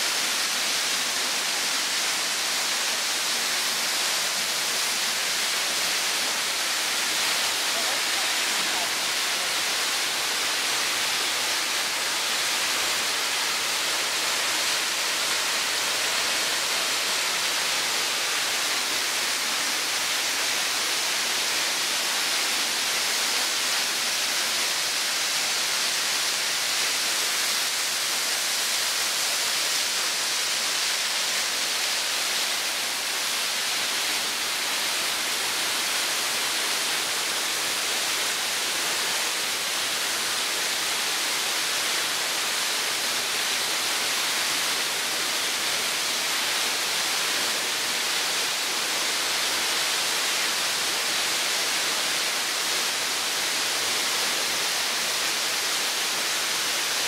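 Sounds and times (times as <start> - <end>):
waterfall rushing onto rock: 0.0 - 57.0.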